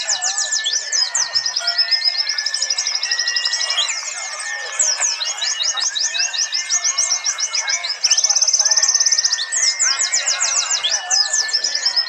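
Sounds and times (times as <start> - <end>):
birds chirping trills: 0.0 - 12.0.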